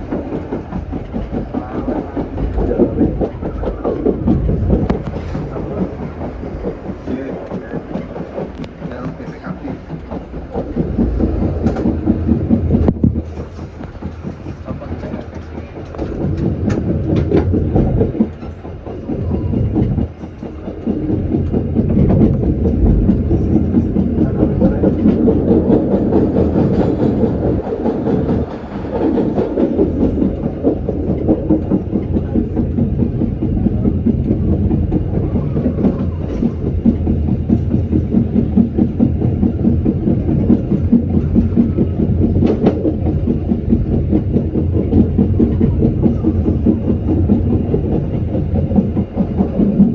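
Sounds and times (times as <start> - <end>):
train wheels rumbling on rails: 0.0 - 49.9
wheels clattering over track: 0.0 - 49.9.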